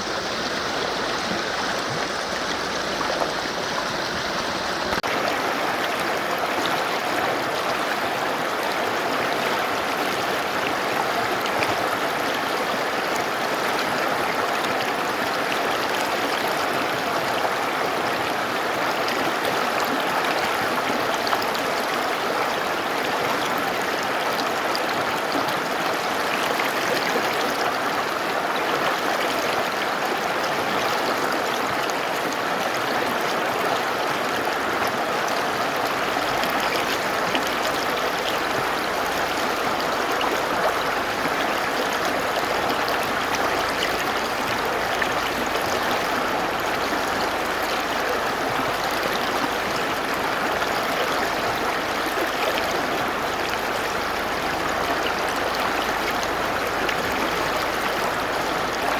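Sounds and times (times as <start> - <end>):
river water running: 0.0 - 58.9.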